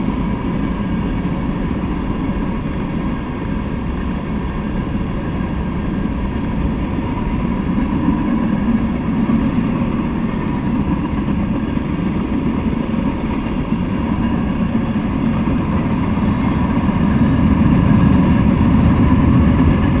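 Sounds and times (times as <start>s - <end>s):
freight train wheels rumbling on track: 0.0s - 20.0s.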